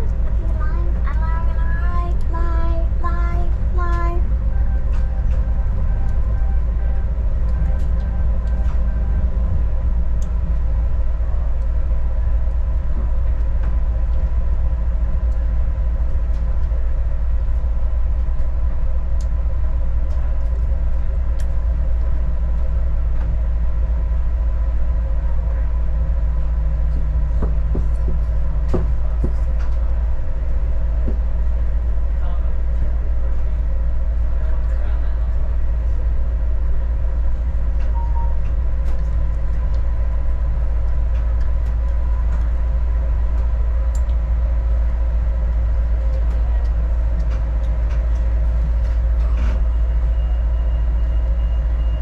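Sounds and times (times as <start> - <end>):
engine hum: 0.0 - 52.0
train rumbling along track: 0.0 - 52.0.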